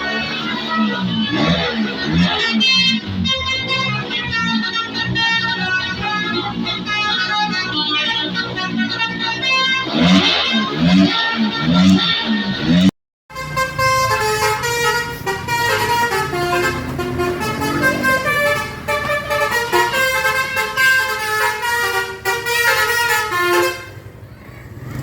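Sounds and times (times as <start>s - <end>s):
multi-tone air horn melody: 0.0s - 24.1s
bus engine running: 0.0s - 25.0s.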